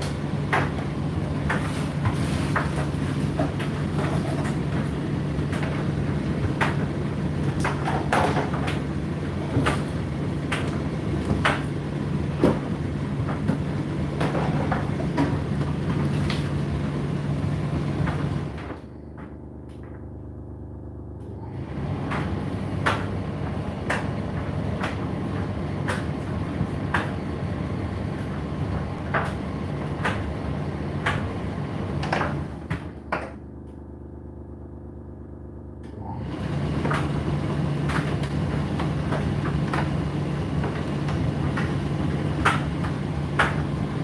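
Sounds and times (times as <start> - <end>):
tumble dryer drum humming: 0.0 - 44.0.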